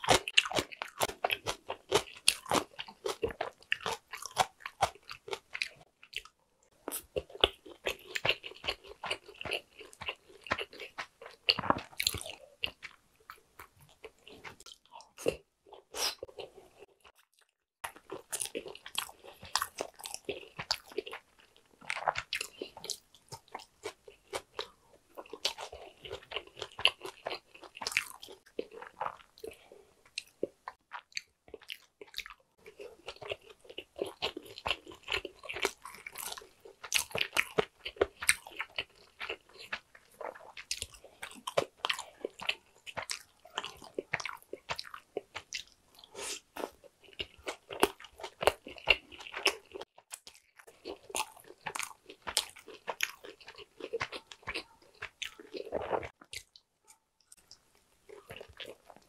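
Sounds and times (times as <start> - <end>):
chewing food wet mouth sounds: 0.0 - 59.0.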